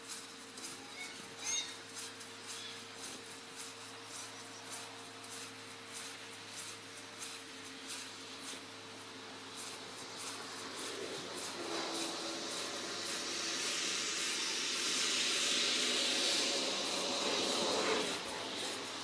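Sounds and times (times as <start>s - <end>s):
scythe swishing through grass: 0.0s - 19.0s
steady low hum: 0.0s - 19.0s.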